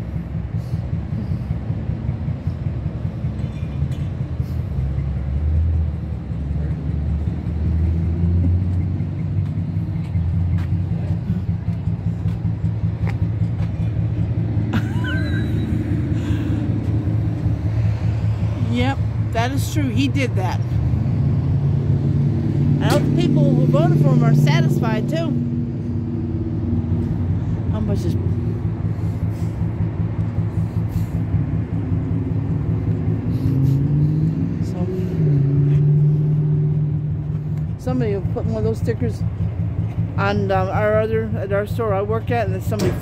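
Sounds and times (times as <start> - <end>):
vehicle engine idling: 0.0 - 43.0.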